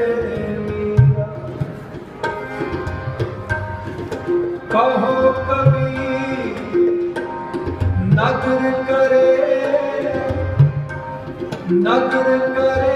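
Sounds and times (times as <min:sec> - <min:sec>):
harmonium notes: 0:00.0 - 0:12.9
tabla rhythm: 0:00.0 - 0:12.9.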